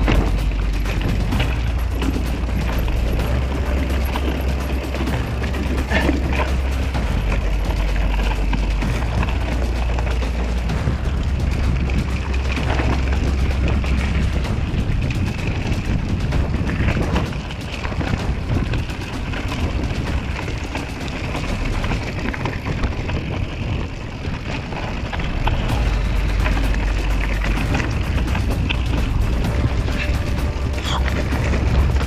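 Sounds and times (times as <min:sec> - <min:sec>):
bike rattling over bumps: 0:00.0 - 0:32.0
tyres crunching over stones: 0:00.0 - 0:32.0
wind and rolling noise: 0:00.0 - 0:32.0.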